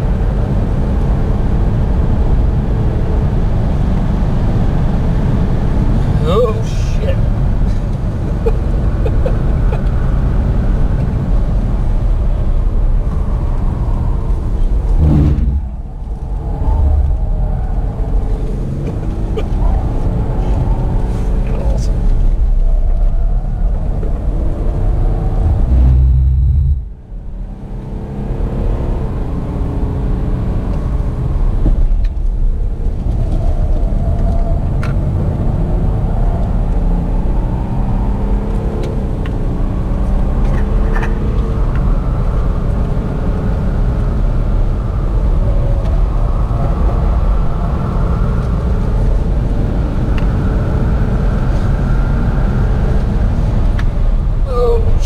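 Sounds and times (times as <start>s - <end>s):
car engine accelerating: 0.0s - 54.4s.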